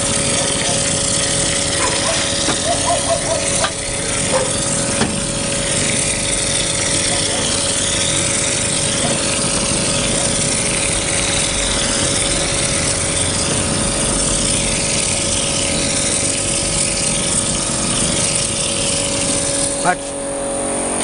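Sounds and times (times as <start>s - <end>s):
machine hum: 0.0s - 21.0s
mortar sprayer hissing rush: 0.0s - 21.0s.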